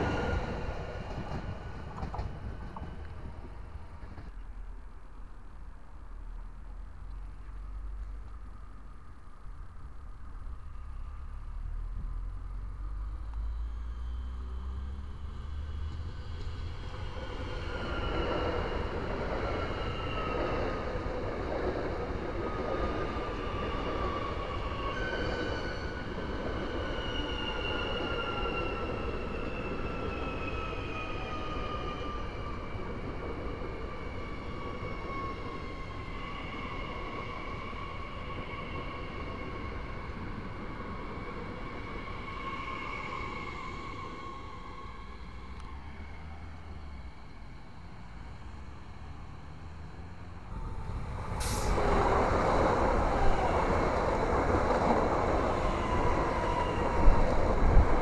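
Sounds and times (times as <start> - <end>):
train wheels on rail: 0.0 - 4.6, 12.9 - 58.0
train low rumble: 0.0 - 58.0.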